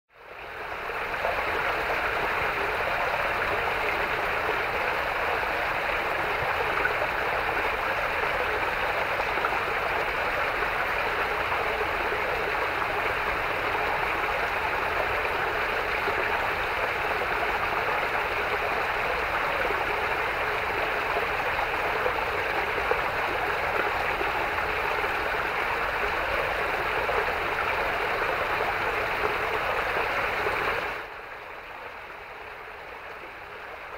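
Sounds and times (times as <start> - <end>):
stream splashing over rocks: 0.4 - 31.2.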